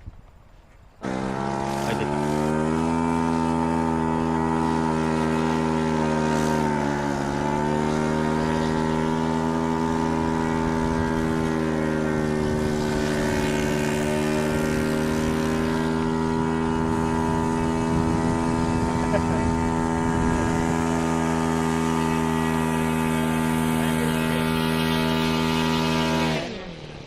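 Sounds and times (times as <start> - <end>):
model airplane engine: 0.2 - 27.0.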